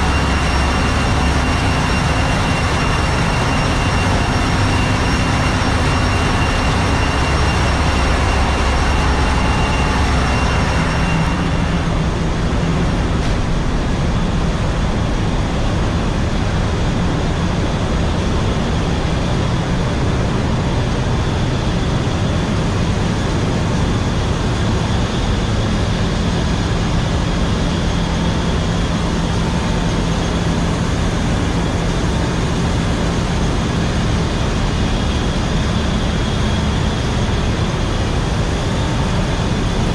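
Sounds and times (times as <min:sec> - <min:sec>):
engine room machinery drone: 0:00.0 - 0:39.9
faint high whine: 0:00.0 - 0:39.9
low hum: 0:00.0 - 0:39.9.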